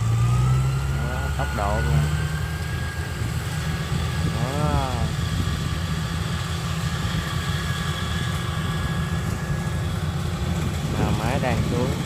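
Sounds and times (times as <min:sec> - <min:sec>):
combine harvester diesel engine running: 0:00.0 - 0:12.0
faint high whine: 0:00.0 - 0:12.0.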